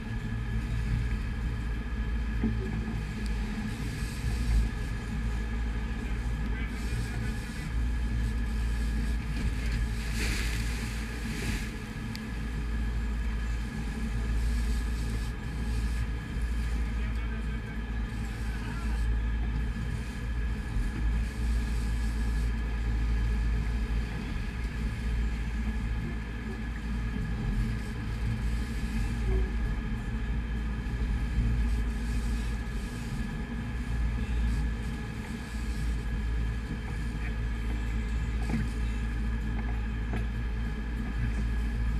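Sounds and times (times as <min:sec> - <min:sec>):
boat engines rumbling: 0:00.0 - 0:41.9
rushing sea water: 0:00.0 - 0:41.9
wind: 0:00.0 - 0:41.9.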